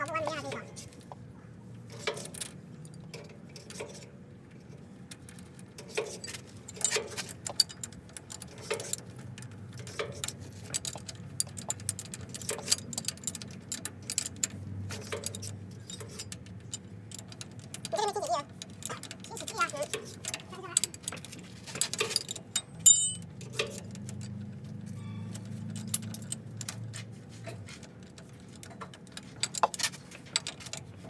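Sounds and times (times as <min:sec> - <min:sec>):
metal tools clicking and tapping: 0:01.9 - 0:04.1, 0:05.1 - 0:31.0.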